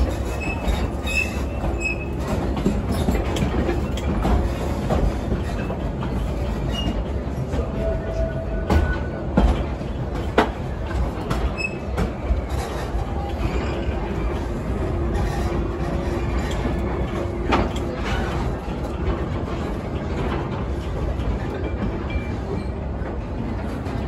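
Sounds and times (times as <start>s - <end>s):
train cars rumbling: 0.0s - 24.0s.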